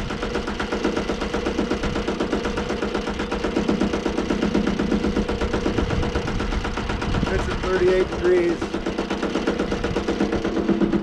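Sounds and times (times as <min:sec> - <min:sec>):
sawmill gas engine running: 0:00.0 - 0:11.0.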